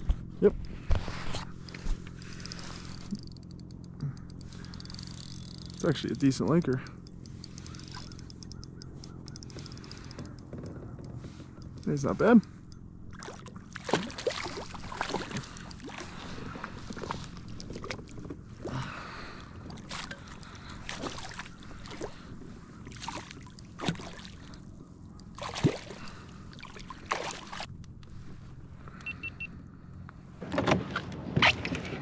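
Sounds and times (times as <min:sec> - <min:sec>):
water sloshing: 0:00.7 - 0:27.7.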